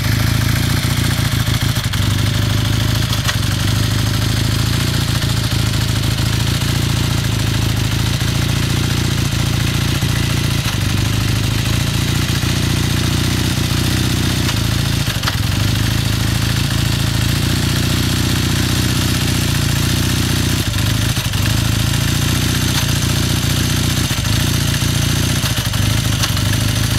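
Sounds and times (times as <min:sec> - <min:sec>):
engine knocking: 0:00.0 - 0:26.9
motorcycle engine idling: 0:00.0 - 0:26.9.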